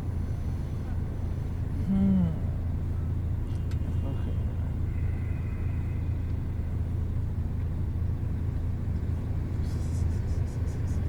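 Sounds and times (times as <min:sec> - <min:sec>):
bus engine rumble and road noise: 0:00.0 - 0:11.0.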